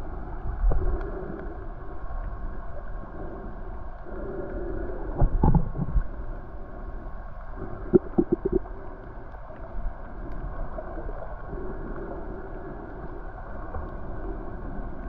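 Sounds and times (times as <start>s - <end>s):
underwater rushing and gurgling: 0.0s - 15.0s.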